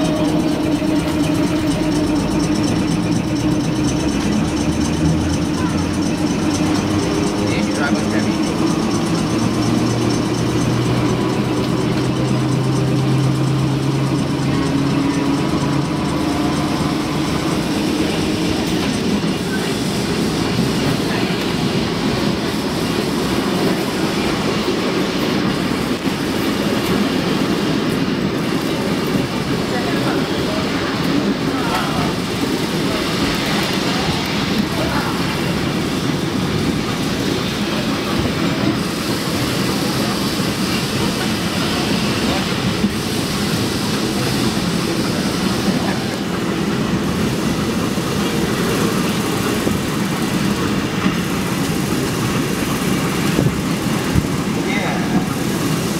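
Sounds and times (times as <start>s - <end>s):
streetcar wheels rumbling on rails: 0.0s - 55.9s.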